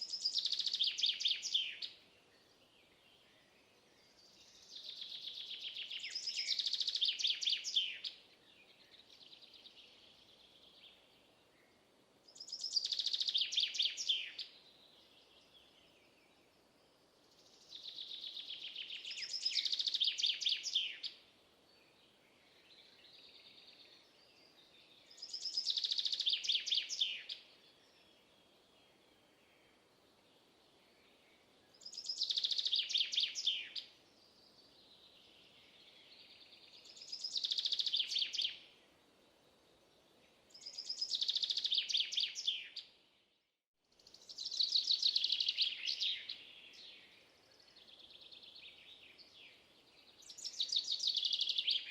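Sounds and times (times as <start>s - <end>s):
faint bird chirps: 0.0s - 51.9s
songbird singing: 0.0s - 51.9s.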